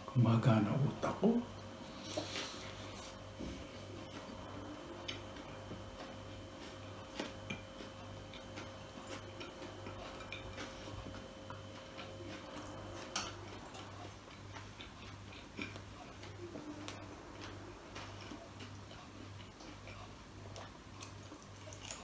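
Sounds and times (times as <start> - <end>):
man chewing food: 1.4 - 22.0.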